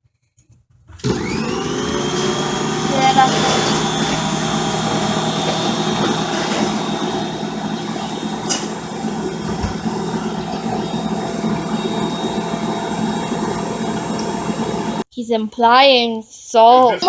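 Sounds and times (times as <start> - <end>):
beater churning dough: 1.0 - 15.0
electric mixer motor humming: 1.0 - 15.0.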